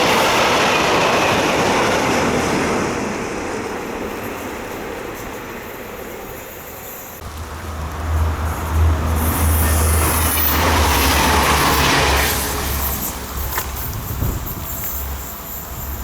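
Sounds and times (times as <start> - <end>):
train rolling past: 0.0 - 16.0.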